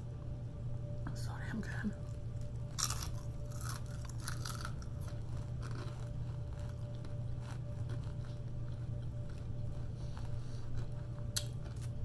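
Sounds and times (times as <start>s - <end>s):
steady low hum: 0.0s - 12.0s
person chewing food: 2.0s - 12.0s.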